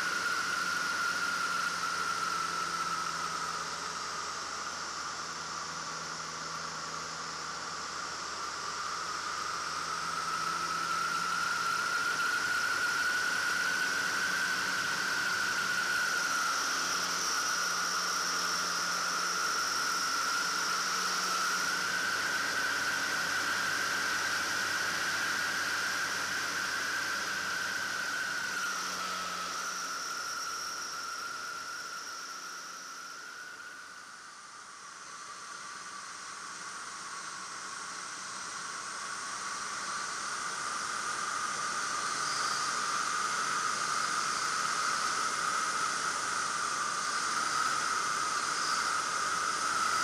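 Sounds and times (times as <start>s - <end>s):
faint aircraft engine: 0.0s - 50.0s
high whining tone: 0.0s - 50.0s.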